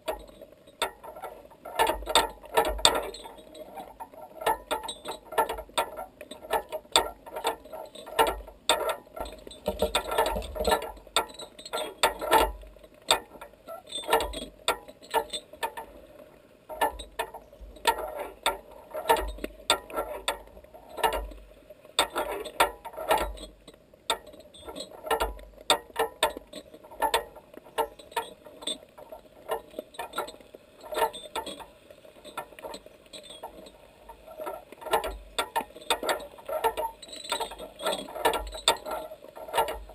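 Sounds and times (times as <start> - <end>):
underwater clicking and crackling: 0.0 - 39.9.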